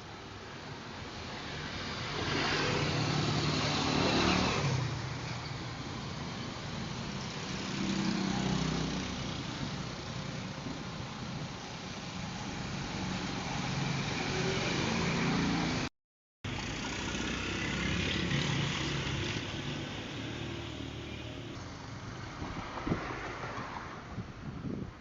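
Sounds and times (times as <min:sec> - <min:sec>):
road and wind noise: 0:00.0 - 0:15.9, 0:16.5 - 0:25.0.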